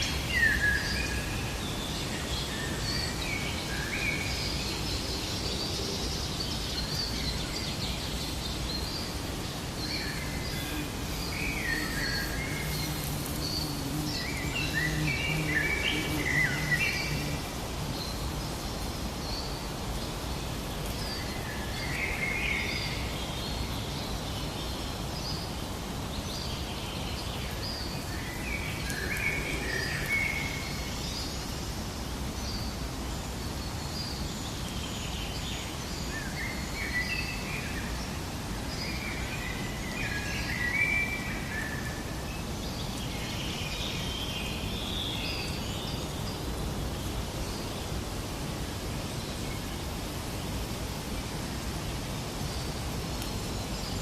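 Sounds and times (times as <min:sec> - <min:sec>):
background hiss: 0:00.0 - 0:54.0
small birds chirping: 0:00.0 - 0:54.0.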